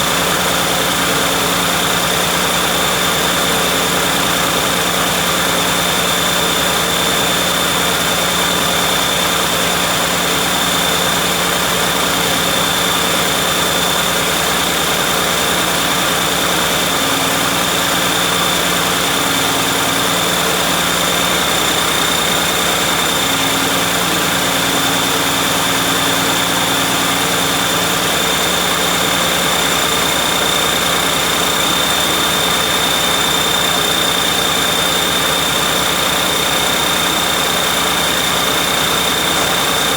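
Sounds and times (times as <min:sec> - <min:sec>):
diesel engine idling: 0:00.0 - 0:34.7
steady high whine: 0:00.0 - 0:39.9.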